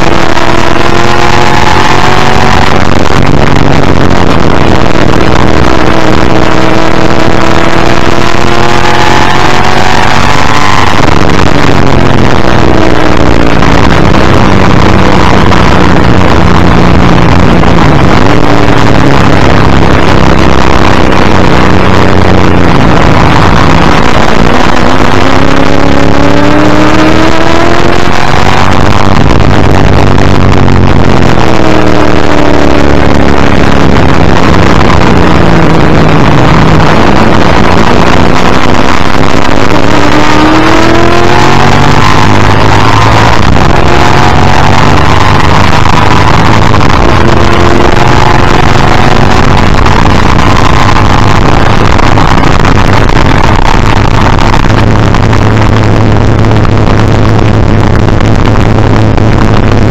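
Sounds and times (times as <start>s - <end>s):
racing engine revving: 0.0s - 59.9s.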